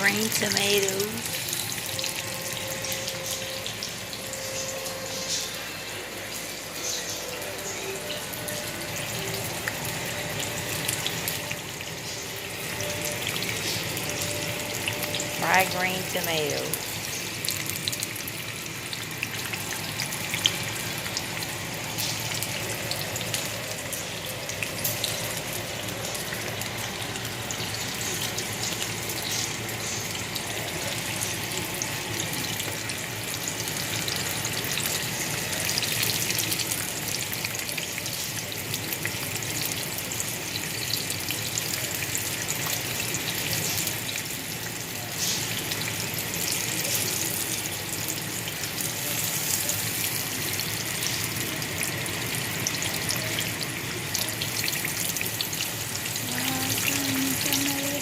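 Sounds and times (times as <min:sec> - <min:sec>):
tomato slices sizzling in hot oil: 0:00.0 - 0:58.0.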